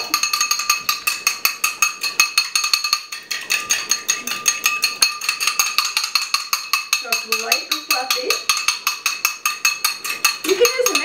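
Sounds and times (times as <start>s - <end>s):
egg beaten in glass bowl: 0.0s - 11.0s.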